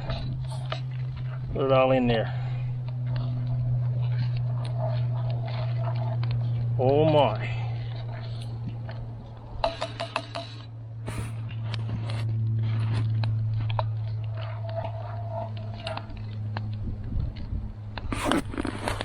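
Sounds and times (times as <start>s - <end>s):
utensil scraping cast iron pot: 0.0s - 17.2s
steady low hum: 0.0s - 19.0s.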